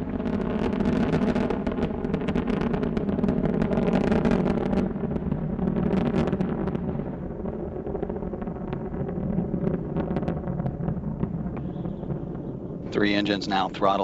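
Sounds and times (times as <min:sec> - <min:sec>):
rocket engines rumbling: 0:00.0 - 0:14.0.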